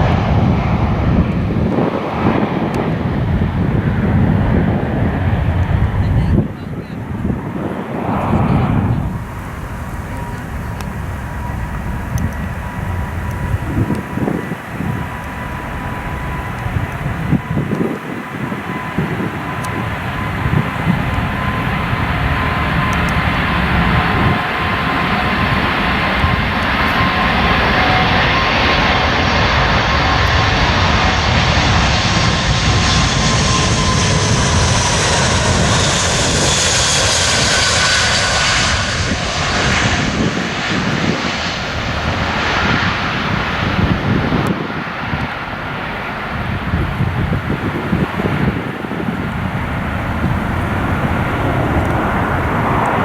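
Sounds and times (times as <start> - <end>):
high jet engine whine: 0.0 - 53.0
jet airliner roar: 0.0 - 53.0.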